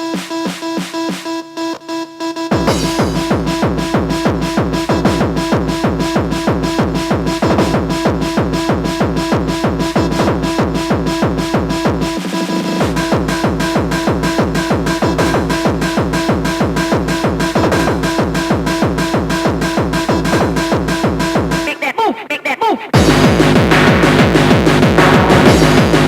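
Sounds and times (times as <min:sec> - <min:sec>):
kick-drum beat: 0:00.0 - 0:01.3, 0:02.5 - 0:21.7, 0:23.0 - 0:26.0.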